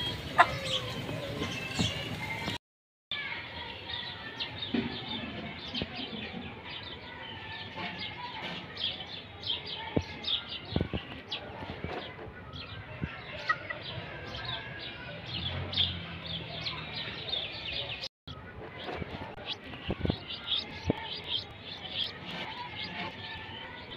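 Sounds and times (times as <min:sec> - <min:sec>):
small birds chirping: 0:00.0 - 0:02.6, 0:03.2 - 0:23.9.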